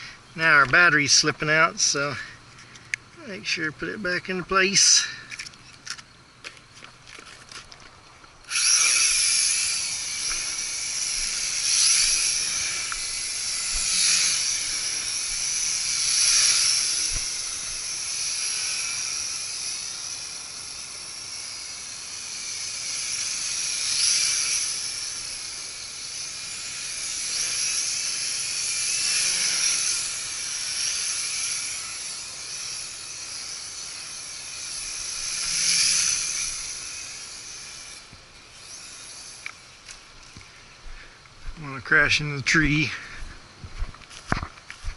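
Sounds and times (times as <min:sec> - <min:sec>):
drone motors whining: 0:04.8 - 0:41.6.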